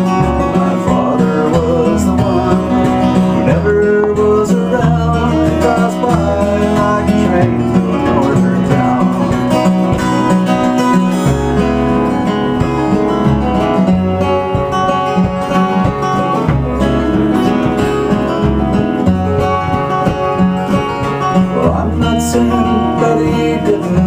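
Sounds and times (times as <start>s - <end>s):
fingerpicked acoustic guitar: 0.0s - 24.0s.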